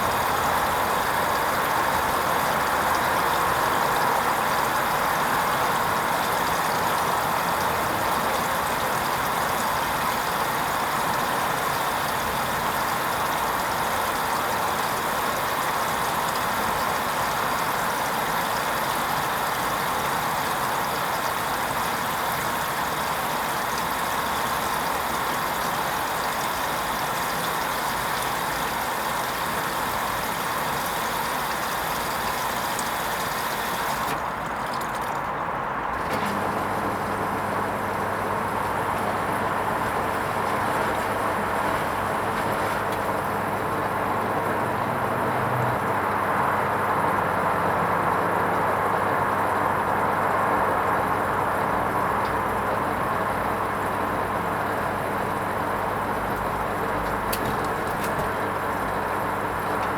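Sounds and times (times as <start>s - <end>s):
washing machine rushing noise: 0.0s - 59.9s.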